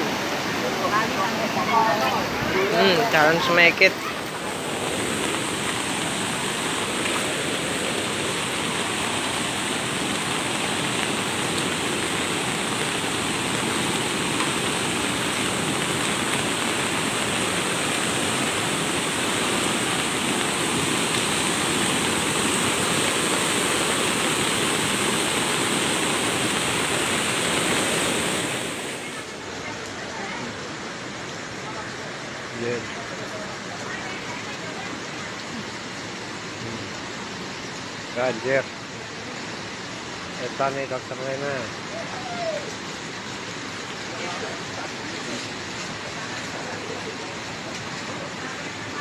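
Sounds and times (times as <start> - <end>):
floodwater rushing in a loud roar: 0.0 - 49.0.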